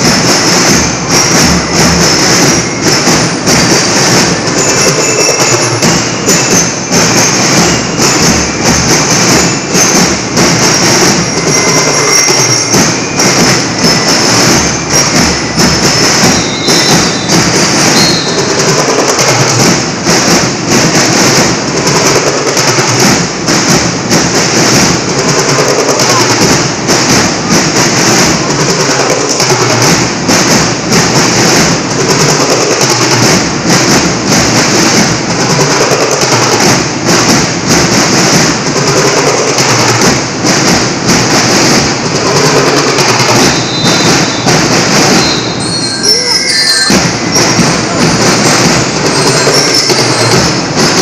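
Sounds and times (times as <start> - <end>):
loud band music: 0.0 - 51.0
rapid drumming: 0.0 - 51.0.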